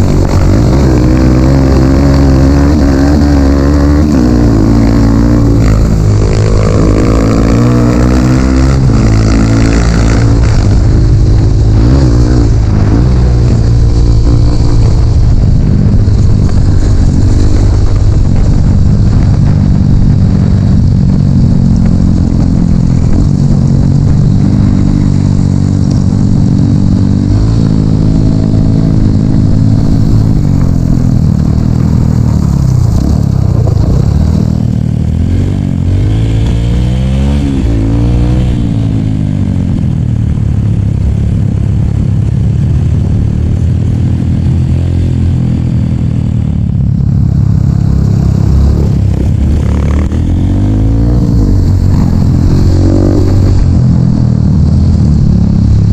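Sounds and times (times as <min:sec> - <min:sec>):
dirt bike engine revving: 0:00.0 - 0:39.9, 0:44.0 - 0:55.9.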